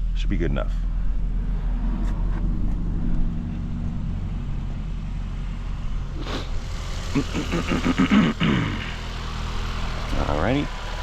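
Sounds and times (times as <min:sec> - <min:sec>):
car engine at raised idle: 0:00.0 - 0:11.0.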